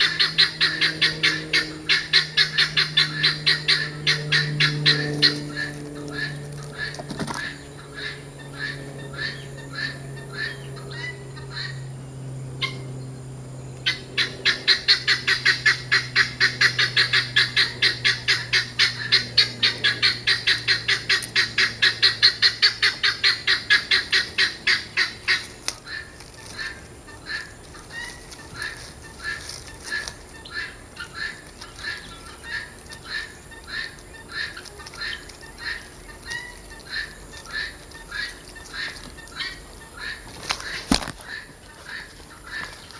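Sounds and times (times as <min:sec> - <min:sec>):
repeated animal calls: 0:00.0 - 0:42.9.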